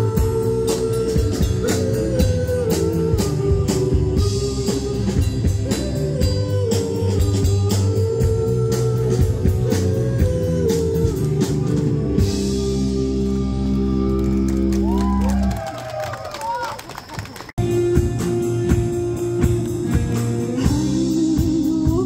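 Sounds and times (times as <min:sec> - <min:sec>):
electric guitar melody: 0:00.0 - 0:14.9, 0:17.6 - 0:22.0
drum kit: 0:00.0 - 0:15.2, 0:17.6 - 0:22.0.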